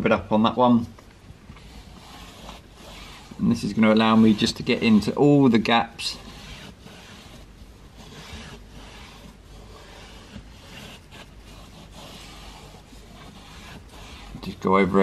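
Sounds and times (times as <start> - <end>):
cloth rubbing on leather seat: 1.4 - 15.0.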